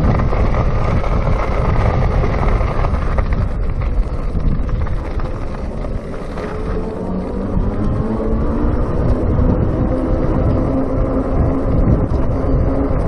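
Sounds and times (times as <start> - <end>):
tyre and road noise: 0.0 - 13.0
wind buffeting microphone: 0.0 - 13.0.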